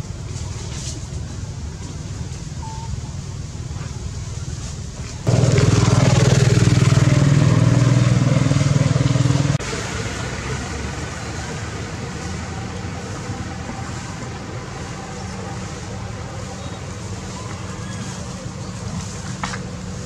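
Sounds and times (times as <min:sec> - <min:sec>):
engine running with pulsing hum: 0:00.0 - 0:20.0.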